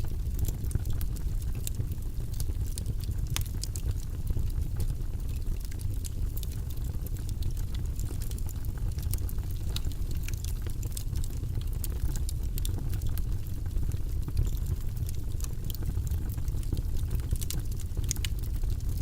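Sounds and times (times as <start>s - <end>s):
logs crackling in fireplace: 0.0s - 19.0s.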